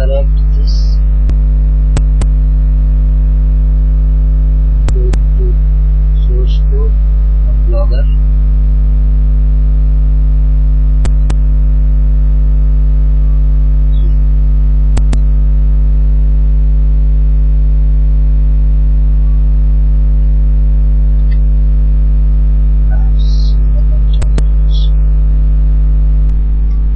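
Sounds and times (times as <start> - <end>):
loud electrical hum: 0.0 - 26.9.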